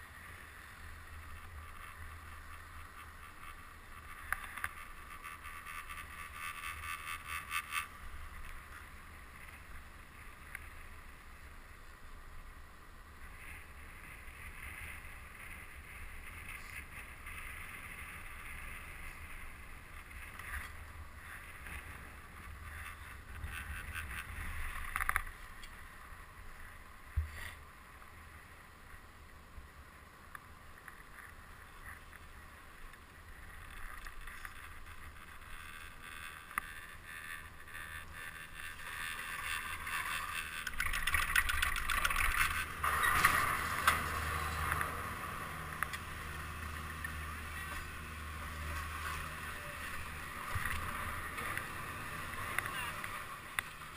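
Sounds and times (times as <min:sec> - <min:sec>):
chairlift rumble: 0:00.0 - 0:53.9
muffled wind: 0:00.0 - 0:53.9.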